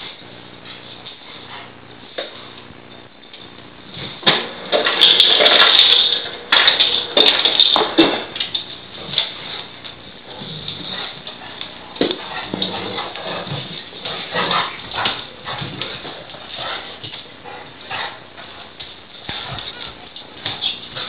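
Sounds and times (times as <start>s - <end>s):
dogs scuffling: 0.0s - 21.0s.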